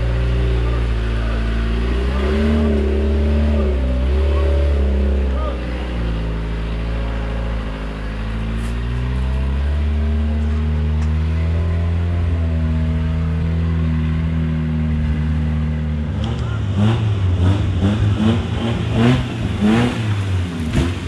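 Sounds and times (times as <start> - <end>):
vehicle engine running under load: 0.0 - 21.0.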